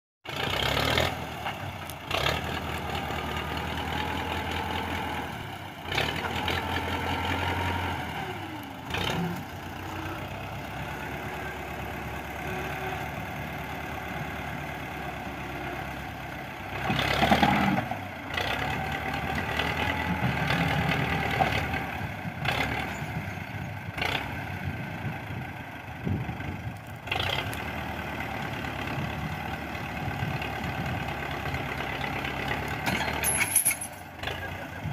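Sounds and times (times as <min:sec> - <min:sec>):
tractor diesel engines running: 0:00.3 - 0:34.9.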